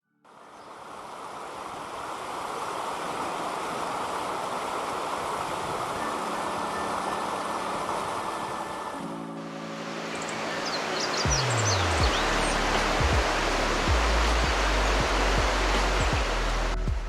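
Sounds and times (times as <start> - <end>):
flowing water rushing: 0.3 - 17.0.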